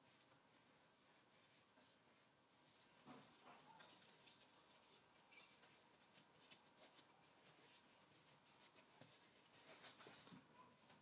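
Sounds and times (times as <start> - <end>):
gloved hands rustling: 1.1 - 10.2.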